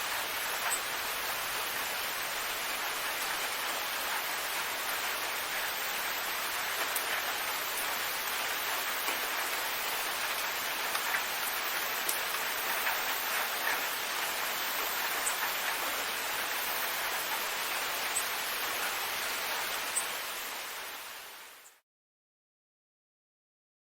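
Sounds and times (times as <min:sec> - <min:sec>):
small drips and patters: 0:00.0 - 0:20.8
steady rain falling: 0:00.0 - 0:21.8.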